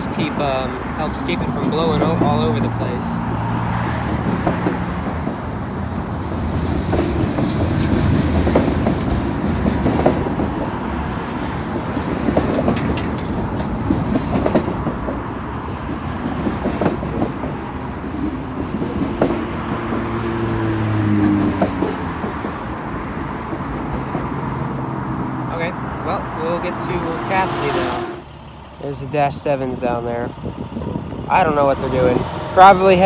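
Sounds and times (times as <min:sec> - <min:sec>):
train wheels clattering over rail joints: 0:00.0 - 0:28.7, 0:29.8 - 0:33.0.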